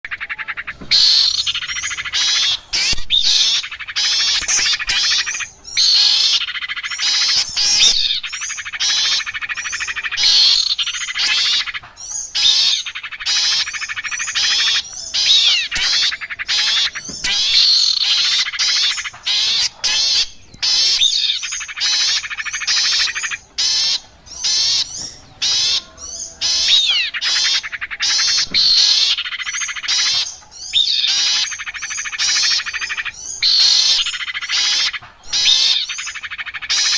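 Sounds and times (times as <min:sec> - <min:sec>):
songbirds chattering and twittering: 0:00.0 - 0:36.9.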